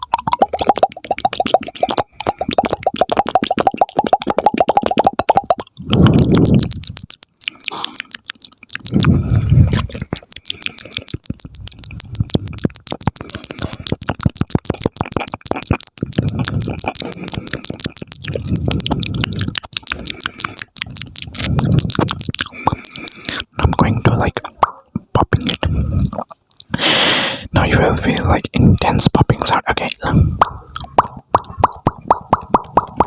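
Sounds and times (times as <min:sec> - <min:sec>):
wet tongue clicks and lip pops: 0:00.0 - 0:26.9, 0:27.6 - 0:33.0.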